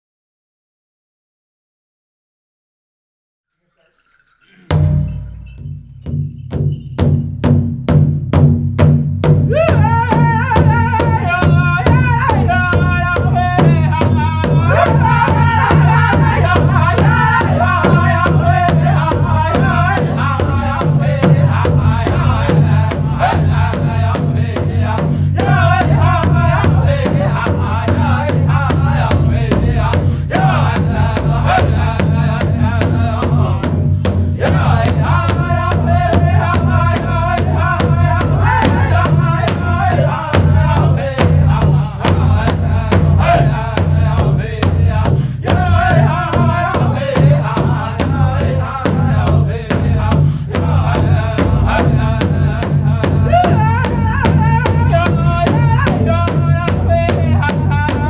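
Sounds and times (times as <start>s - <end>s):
big drum beating: 4.7s - 58.0s
voices singing: 9.5s - 58.0s.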